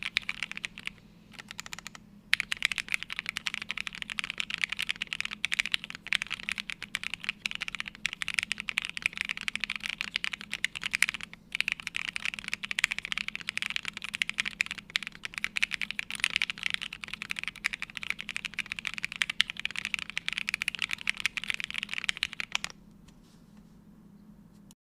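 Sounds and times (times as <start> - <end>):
mechanical keyboard typing: 0.0 - 22.8.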